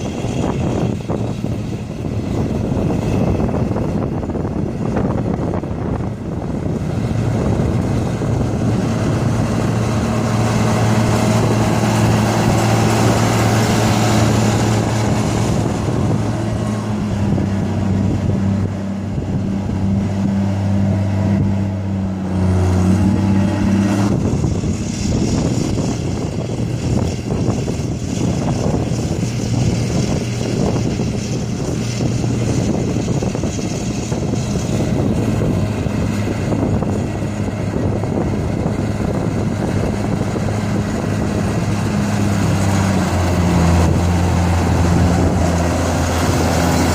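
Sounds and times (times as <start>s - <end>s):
diesel engine droning: 0.0s - 46.9s
engine running roughly: 0.0s - 46.9s.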